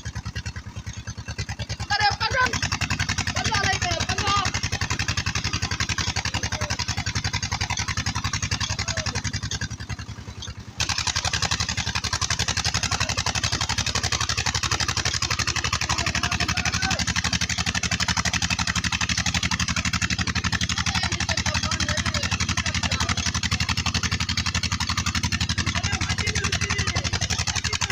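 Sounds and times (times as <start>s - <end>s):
diesel pump engine thudding: 0.0s - 27.9s.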